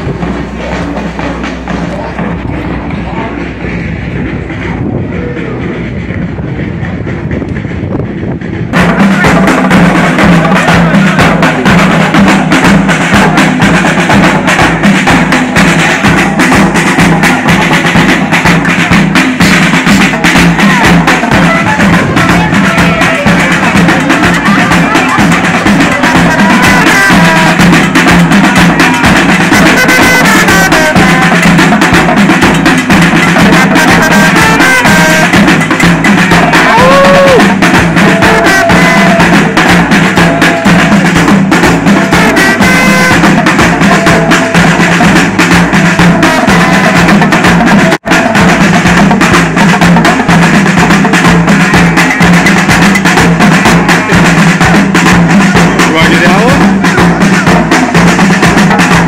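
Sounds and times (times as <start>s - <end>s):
loud drum and percussion music: 0.0s - 59.0s.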